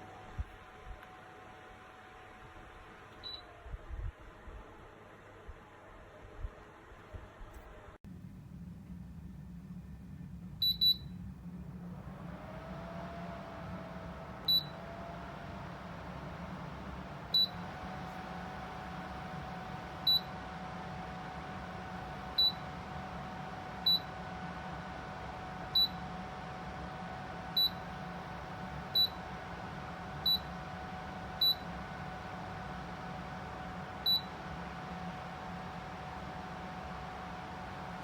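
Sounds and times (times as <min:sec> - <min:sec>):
electric fan whirring: 0:00.0 - 0:38.0.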